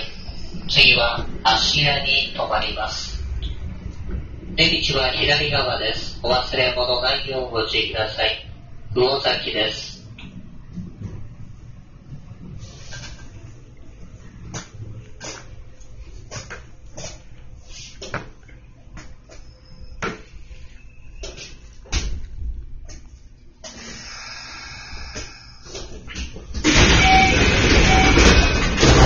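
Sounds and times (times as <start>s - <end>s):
train car low hum: 0.0s - 29.0s.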